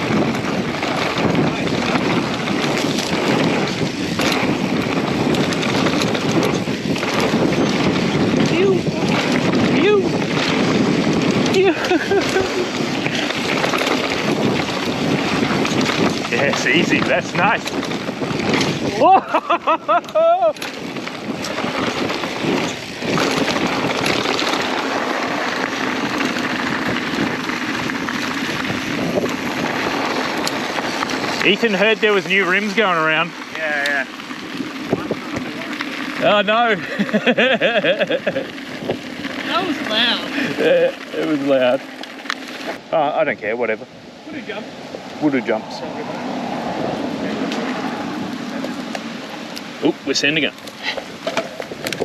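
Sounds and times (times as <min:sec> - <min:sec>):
bike rattling ticks: 0:00.0 - 0:43.6, 0:46.4 - 0:52.0
bike tyres rumbling on dirt: 0:00.0 - 0:52.0
wind buffeting microphone: 0:00.0 - 0:52.0.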